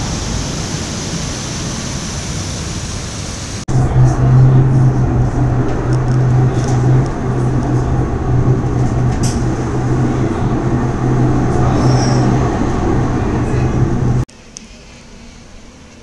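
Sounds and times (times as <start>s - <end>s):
wheels rumbling on rails: 0.0s - 14.3s
constant low hum: 0.0s - 16.0s.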